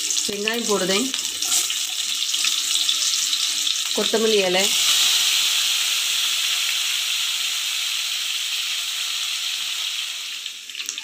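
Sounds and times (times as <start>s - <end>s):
leaves sizzling in hot oil: 0.0s - 11.0s.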